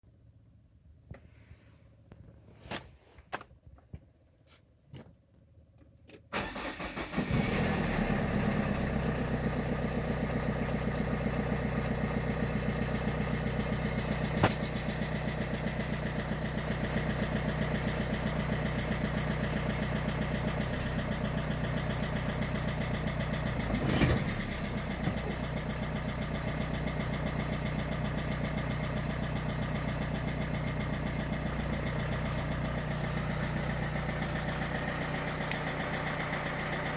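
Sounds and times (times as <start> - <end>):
diesel engine cranking and starting: 6.1 - 36.9
diesel engine idling with knocking: 6.4 - 36.9.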